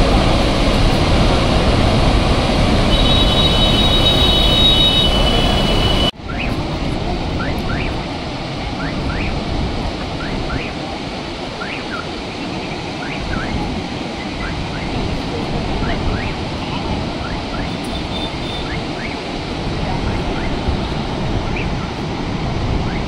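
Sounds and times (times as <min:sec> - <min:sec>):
water rushing down spillway: 0:00.0 - 0:23.0.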